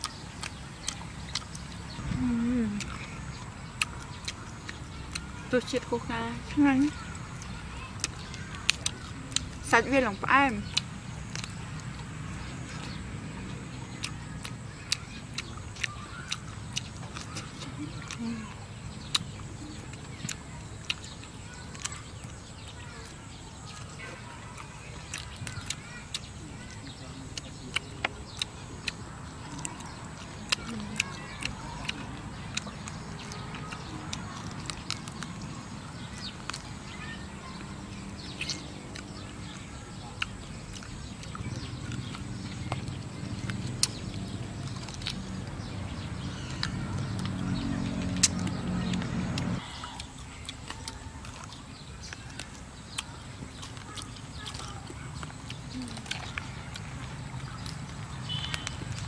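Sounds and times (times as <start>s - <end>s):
mouth clicks and smacks: 0.0s - 5.4s, 6.9s - 9.7s, 10.6s - 59.0s
person chewing meat: 0.0s - 5.5s, 6.9s - 9.7s, 10.6s - 59.0s.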